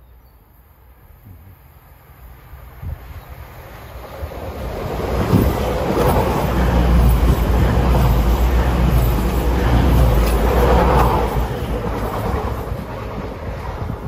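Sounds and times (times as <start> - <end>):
diesel train passing: 0.1 - 14.0.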